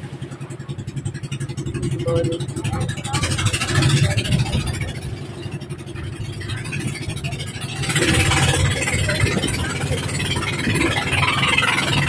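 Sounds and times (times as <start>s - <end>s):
boat engine running: 0.0s - 12.0s
water noise: 0.0s - 12.0s
rushing wind: 0.9s - 12.0s.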